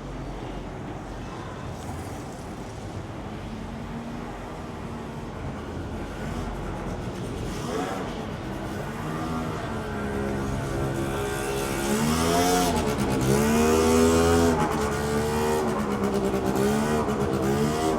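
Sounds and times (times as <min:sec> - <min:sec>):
street murmur: 0:00.0 - 0:17.9.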